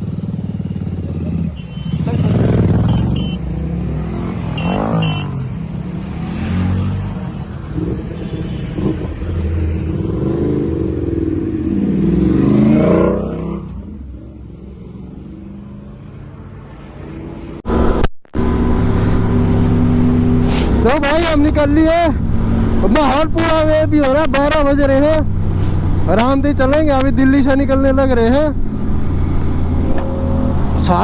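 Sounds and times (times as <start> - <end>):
superbike engines revving: 0.0 - 15.7, 17.7 - 31.0.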